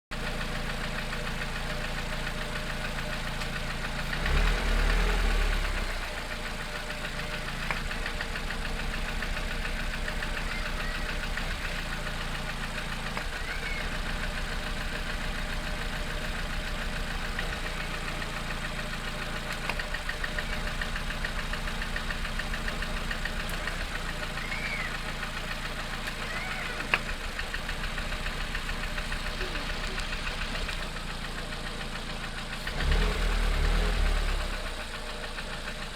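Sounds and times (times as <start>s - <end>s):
engine idling with knock: 0.1s - 35.9s
low engine rumble: 0.1s - 35.9s.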